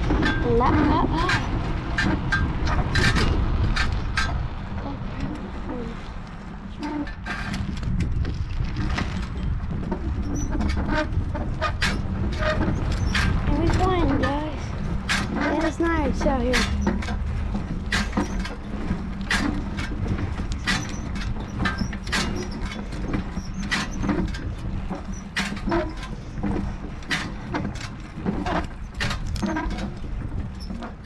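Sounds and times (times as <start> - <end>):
bike rumbling over rough ground: 0.0 - 31.0
knocks and rattles: 0.0 - 31.0.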